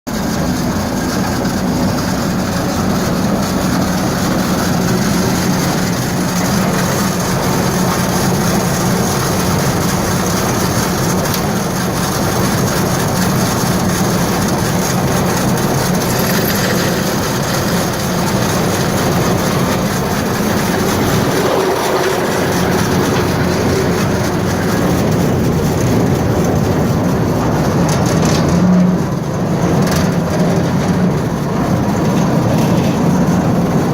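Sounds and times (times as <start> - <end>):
grinder mixer running: 0.1 - 33.9
low mechanical hum: 0.1 - 33.9.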